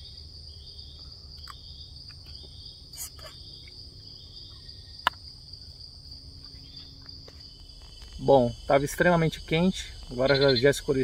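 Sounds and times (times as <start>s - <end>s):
insect chorus shrilling: 0.0s - 11.0s.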